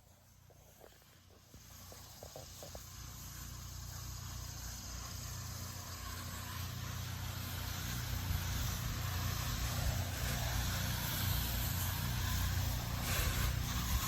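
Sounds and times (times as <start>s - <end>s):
pressure washer engine hum: 0.0s - 14.0s
steady water spray hiss: 0.0s - 14.0s.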